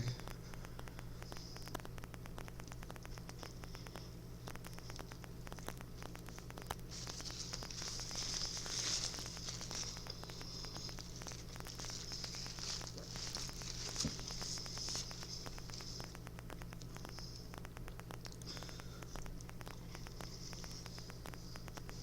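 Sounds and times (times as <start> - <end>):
low electrical hum: 0.0 - 22.0
person chewing food: 0.0 - 22.0.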